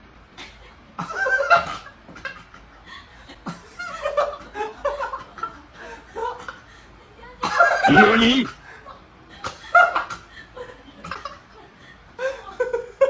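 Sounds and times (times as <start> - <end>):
people laughing: 0.4 - 13.0.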